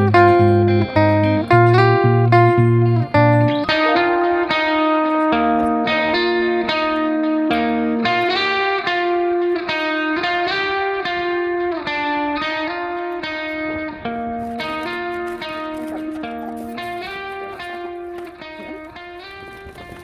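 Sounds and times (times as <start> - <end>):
plucked string instrument melody: 0.0 - 20.0.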